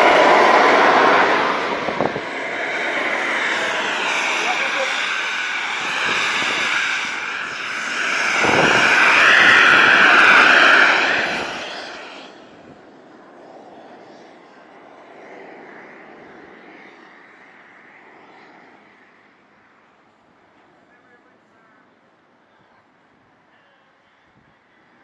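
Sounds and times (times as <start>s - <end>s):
model airplane engine whining: 0.0s - 25.0s.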